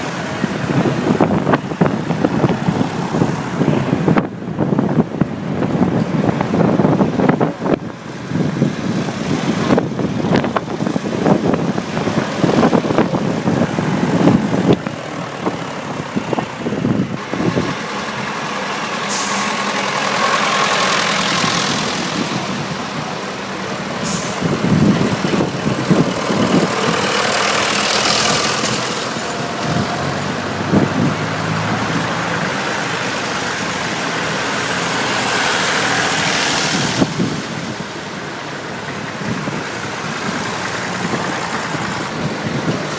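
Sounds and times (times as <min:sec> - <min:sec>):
tractor engines passing: 0:00.0 - 0:42.9
wind buffeting microphone: 0:00.0 - 0:42.9.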